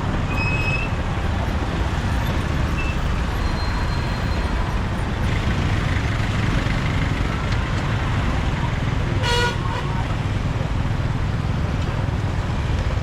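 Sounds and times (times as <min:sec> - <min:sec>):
motorbike engine and road rumble: 0:00.0 - 0:13.0.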